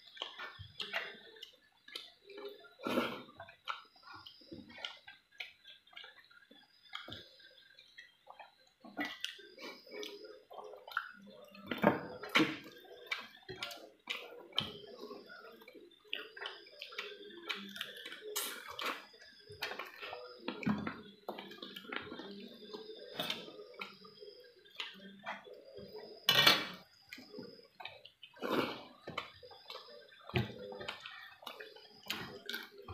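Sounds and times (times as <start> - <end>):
chewing with mouth smacks: 0.0 - 26.3, 27.0 - 32.9.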